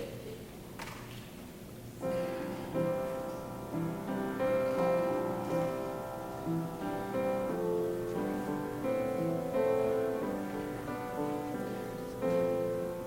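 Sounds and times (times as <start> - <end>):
slow instrumental music: 2.0 - 13.0.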